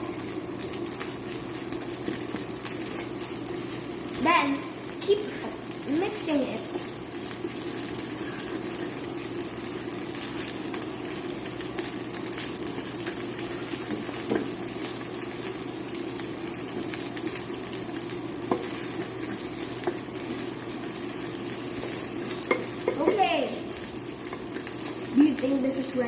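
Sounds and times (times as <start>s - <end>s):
fried rice sizzling in a pan: 0.0s - 26.0s.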